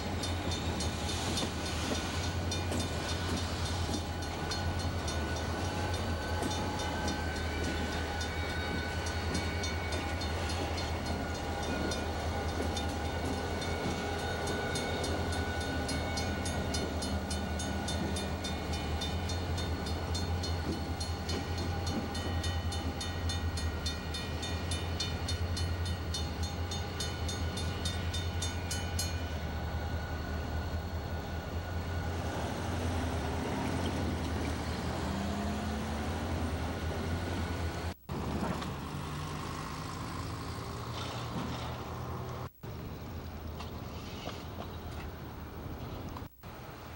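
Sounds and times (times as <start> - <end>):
diesel locomotive engine rumble: 0.0 - 46.9.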